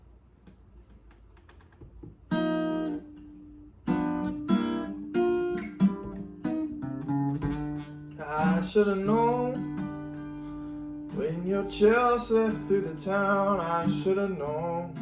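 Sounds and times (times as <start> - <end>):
acoustic guitar strumming: 2.2 - 15.0.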